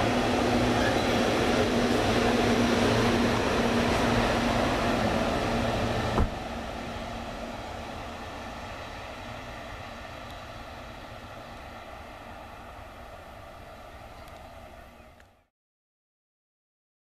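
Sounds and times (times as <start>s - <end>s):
electric train running past: 0.0s - 15.2s.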